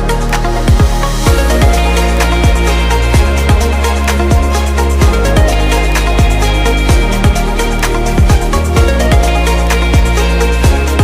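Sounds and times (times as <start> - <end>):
deep bass: 0.0 - 11.0
sustained synth chords: 0.0 - 11.0
pounding kick drum: 0.7 - 9.4, 10.0 - 11.0.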